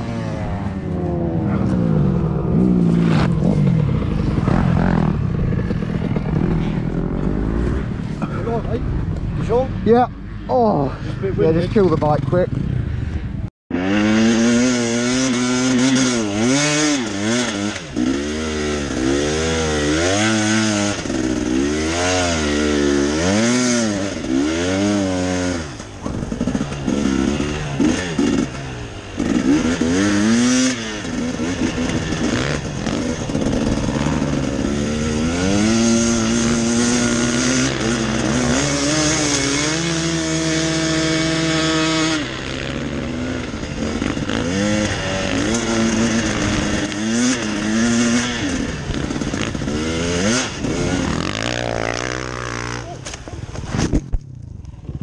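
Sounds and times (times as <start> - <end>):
dirt bike engine revving: 0.0 - 13.1, 13.7 - 54.1.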